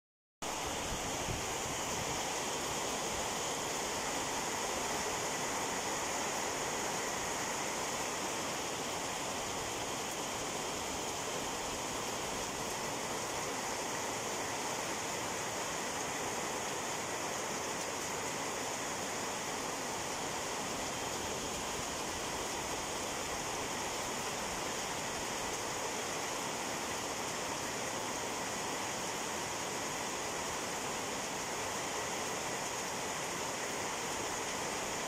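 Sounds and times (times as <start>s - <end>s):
rain falling steadily: 0.4s - 35.0s.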